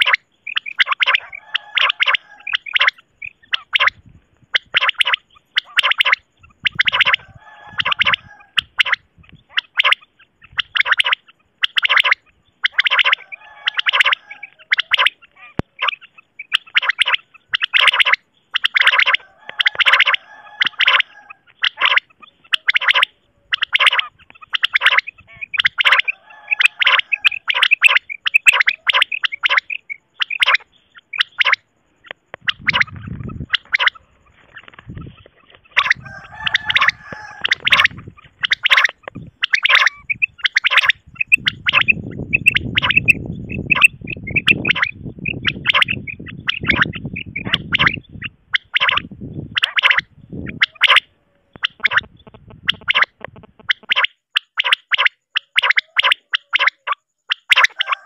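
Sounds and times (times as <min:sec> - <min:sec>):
quail calling: 0:00.0 - 0:58.0.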